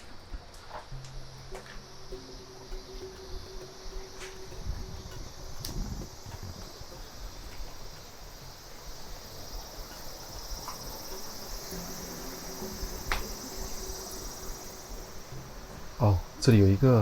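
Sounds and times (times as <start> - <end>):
faint clicks: 0.0 - 16.6
insects chirring: 0.0 - 17.0.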